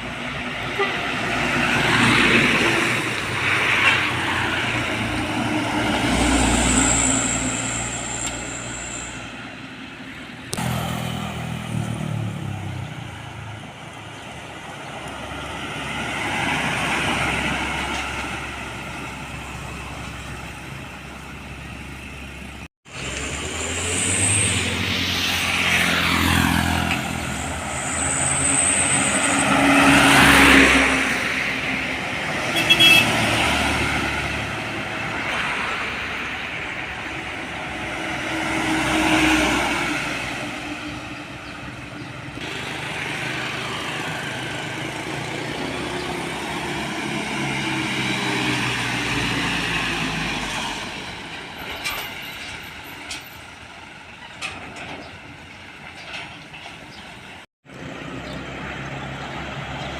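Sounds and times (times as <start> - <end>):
large trucks driving past: 0.0 - 59.9.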